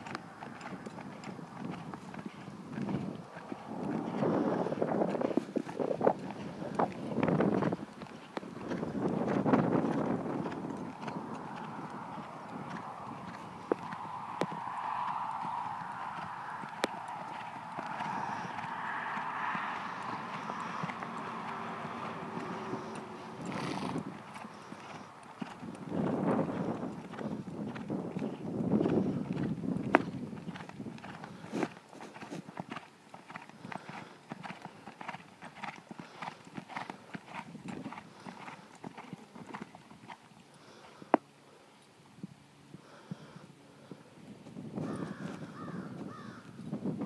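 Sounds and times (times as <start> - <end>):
horse hoofbeats on dirt: 0.0 - 41.3, 43.9 - 47.0.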